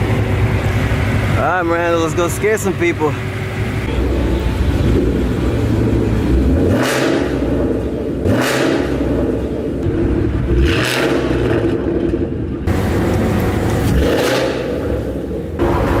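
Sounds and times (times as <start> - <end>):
car engine accelerating: 3.2 - 16.0.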